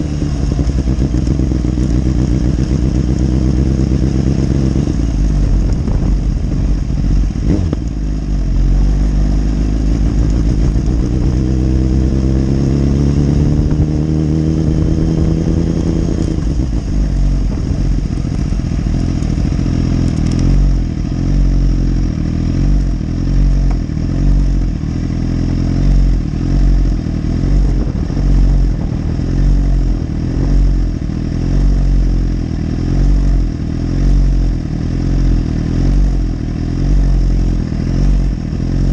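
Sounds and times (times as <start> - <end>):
engine deep rumble: 0.0 - 38.9
motorcycle engine revving: 0.0 - 38.9.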